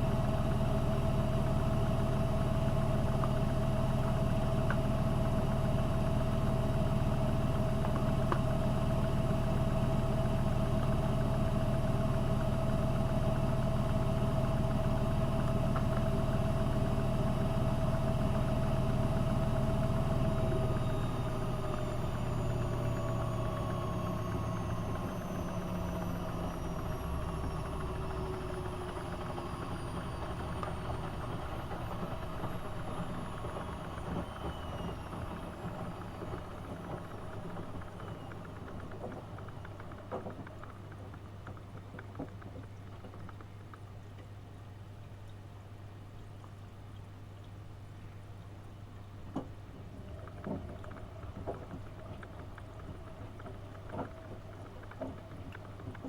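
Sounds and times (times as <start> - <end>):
washing machine drum spinning: 0.0 - 43.8, 49.2 - 56.0.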